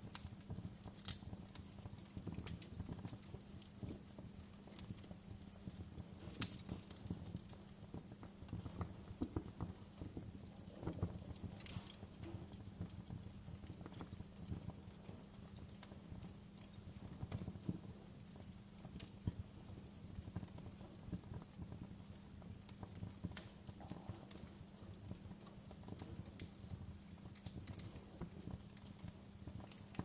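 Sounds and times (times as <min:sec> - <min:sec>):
low rumble of burning: 0:00.0 - 0:30.0
wood fire crackling and popping: 0:00.0 - 0:30.0.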